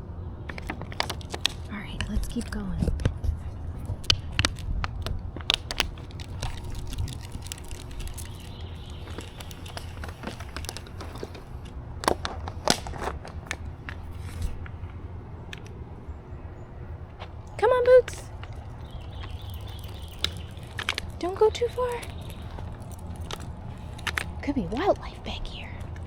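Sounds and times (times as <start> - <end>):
low rumble: 0.0 - 26.0
crackles and snaps underfoot: 0.4 - 26.0
footsteps on woodland trail: 0.5 - 26.0.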